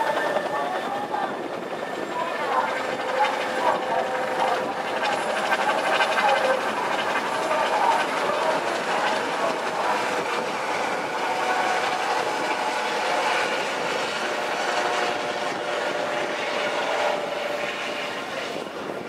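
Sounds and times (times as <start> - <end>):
helicopter rotor beat: 0.0 - 19.0.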